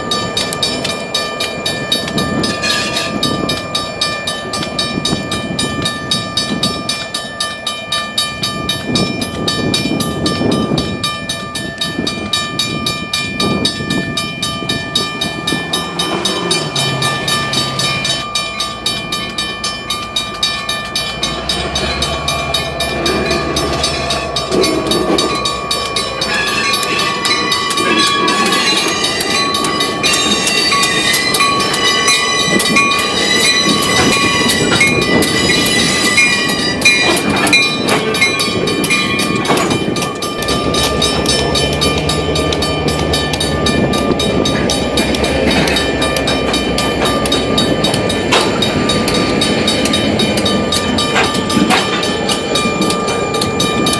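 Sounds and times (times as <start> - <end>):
deep train rumble: 0.0 - 53.9
high ringing tones: 0.0 - 53.9
train wheels clicking over rails: 0.0 - 53.9.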